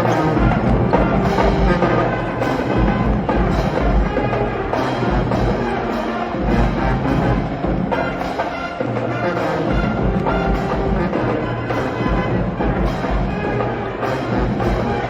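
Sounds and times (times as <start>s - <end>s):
loud music with brass and drums: 0.0s - 15.0s.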